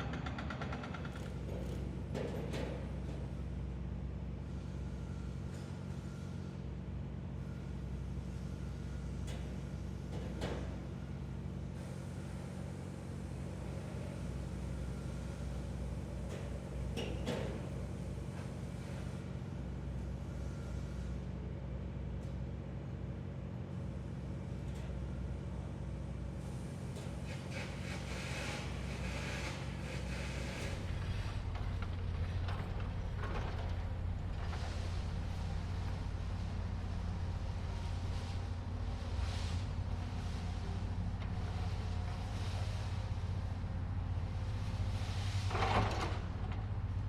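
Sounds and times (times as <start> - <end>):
heavy engines rumbling: 0.0 - 21.7, 23.4 - 47.0.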